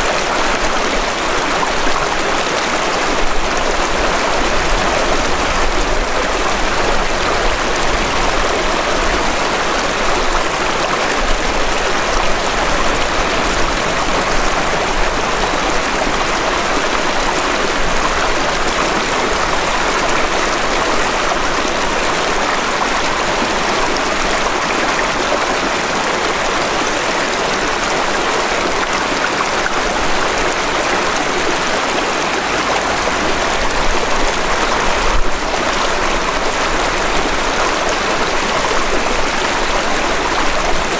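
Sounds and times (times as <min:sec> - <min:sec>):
stream splashing over rocks: 0:00.0 - 0:40.9.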